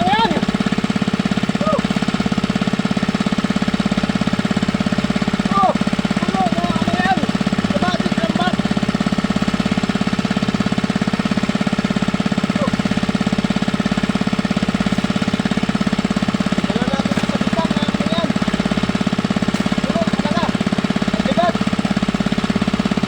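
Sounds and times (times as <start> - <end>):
small engine puttering: 0.0 - 23.0.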